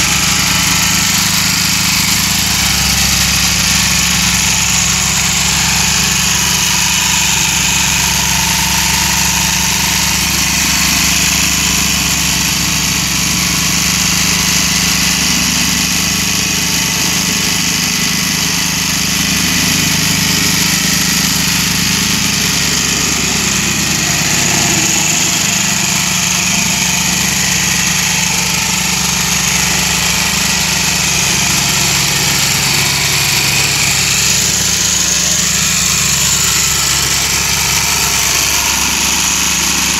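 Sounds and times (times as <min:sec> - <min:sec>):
plate compactor engine running: 0:00.0 - 0:39.9.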